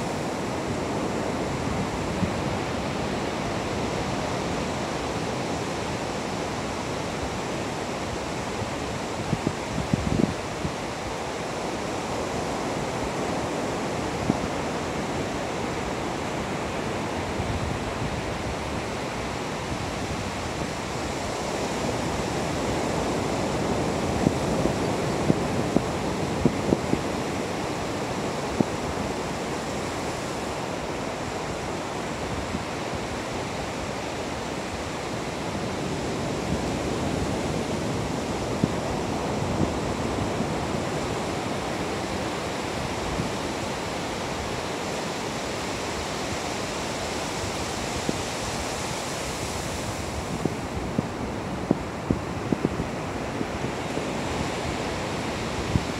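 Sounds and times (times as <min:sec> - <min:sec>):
waves breaking on beach: 0:00.0 - 0:55.9.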